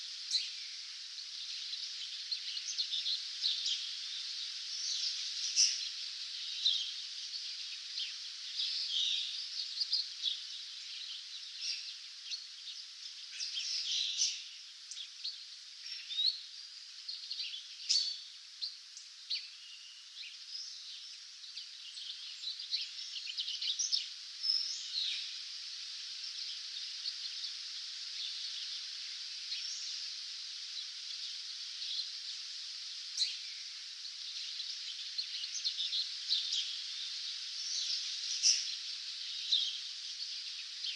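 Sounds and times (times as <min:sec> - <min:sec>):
songbirds chirping and trilling: 0:00.0 - 0:40.9
steady background hiss: 0:00.0 - 0:40.9.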